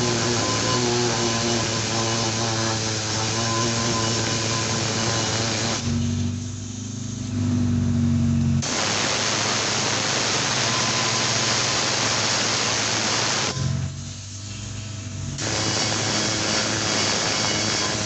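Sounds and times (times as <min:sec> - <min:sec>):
loud air hiss: 0:00.0 - 0:07.5, 0:08.6 - 0:18.0
motor humming: 0:00.0 - 0:18.0.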